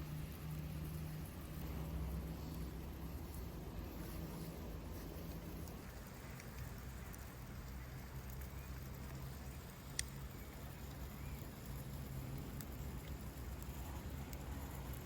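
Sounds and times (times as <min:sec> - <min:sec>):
faint ticks: 0:00.0 - 0:15.0
wood fire crackling: 0:00.0 - 0:15.0.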